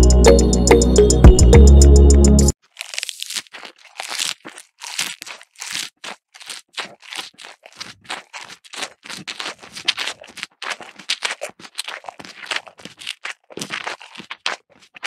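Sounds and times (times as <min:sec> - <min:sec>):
cow chewing grass crunches: 0:02.5 - 0:15.0.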